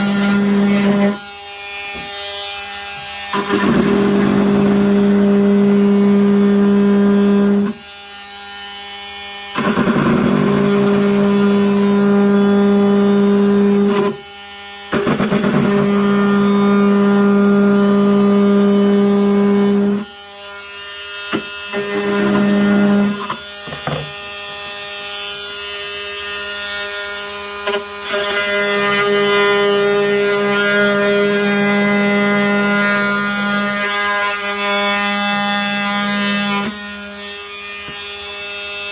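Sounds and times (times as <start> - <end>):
oscillating tool cutting plastic: 0.0 - 25.1, 27.1 - 38.9.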